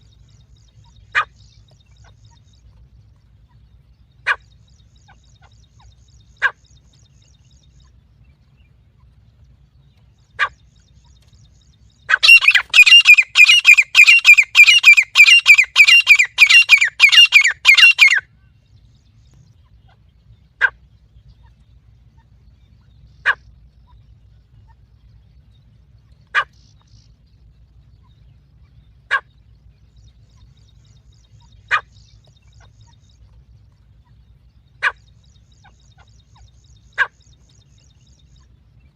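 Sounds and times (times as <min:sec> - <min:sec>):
francolin calls: 0:00.0 - 0:38.9.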